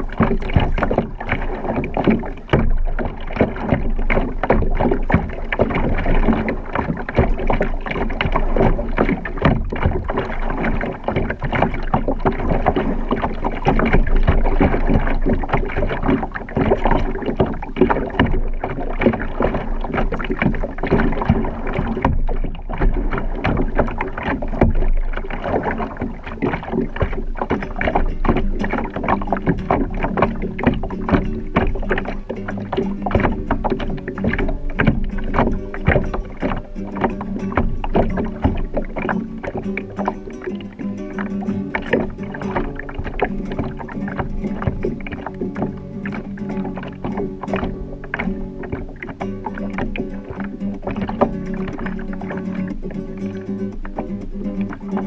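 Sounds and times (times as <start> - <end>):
acoustic guitar: 0.0 - 55.0
water lapping against kayak hull: 0.0 - 55.0
water splashing: 0.0 - 55.0.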